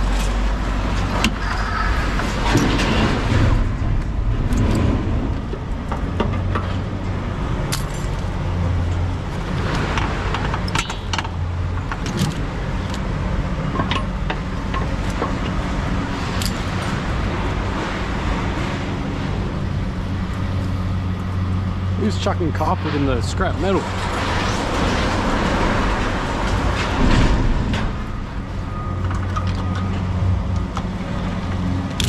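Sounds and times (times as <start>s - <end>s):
vehicle engine and road hum: 0.0s - 32.0s.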